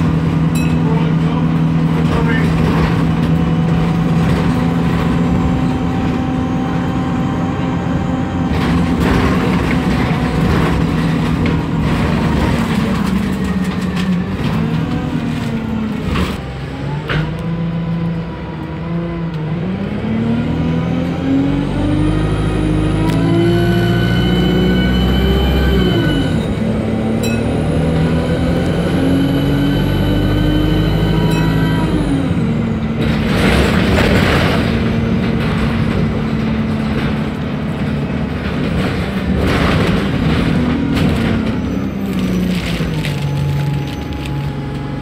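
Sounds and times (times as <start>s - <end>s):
bus engine running: 0.0s - 45.0s.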